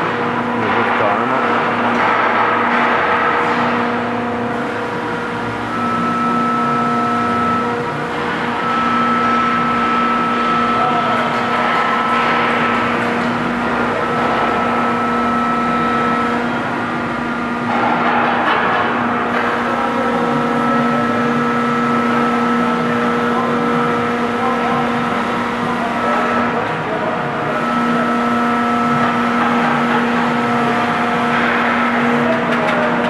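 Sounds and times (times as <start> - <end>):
electric motor and hydraulic pump hum: 0.0 - 33.0.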